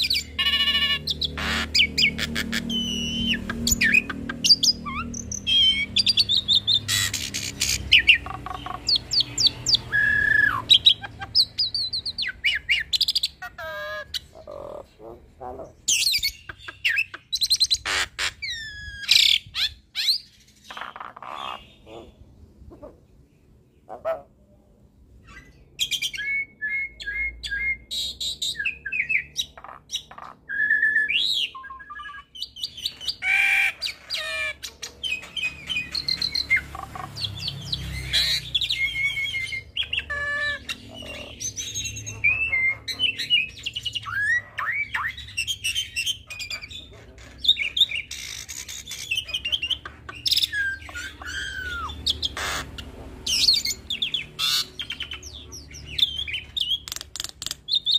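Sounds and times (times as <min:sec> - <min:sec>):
starling singing: 0:00.0 - 0:24.3, 0:25.1 - 0:57.9.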